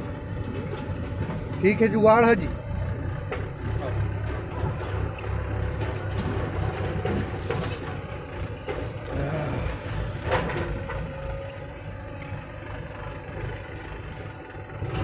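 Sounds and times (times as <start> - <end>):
diesel engine under load: 0.0 - 15.0.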